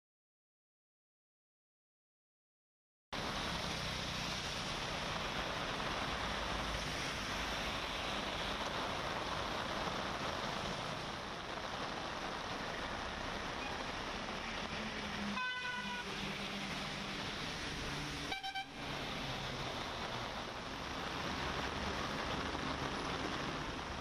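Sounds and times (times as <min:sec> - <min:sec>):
heavy rain pouring on road: 0:03.2 - 0:24.0
traffic on wet road: 0:03.2 - 0:24.0.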